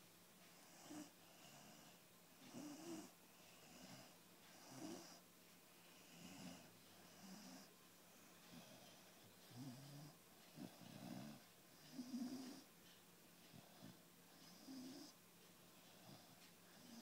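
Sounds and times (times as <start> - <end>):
puppy snoring: 0.5 - 5.2, 5.9 - 12.7, 13.5 - 15.2, 15.9 - 17.0.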